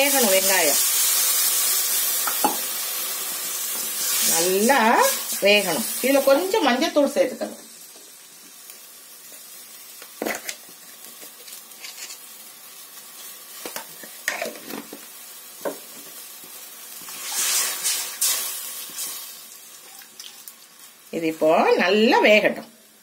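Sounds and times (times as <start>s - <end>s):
faint steady sizzle: 0.0s - 23.0s.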